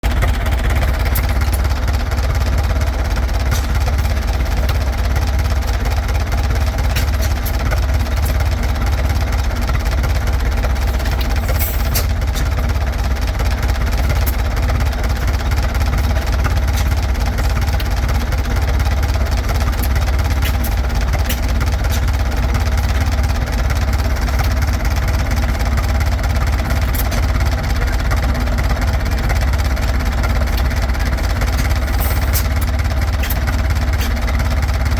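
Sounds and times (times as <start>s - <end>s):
stationary engine running: 0.0s - 34.9s.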